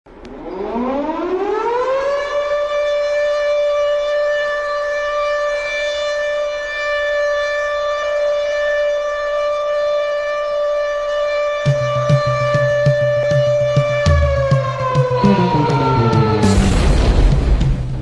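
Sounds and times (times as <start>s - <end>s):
siren-like wail: 0.3s - 17.6s.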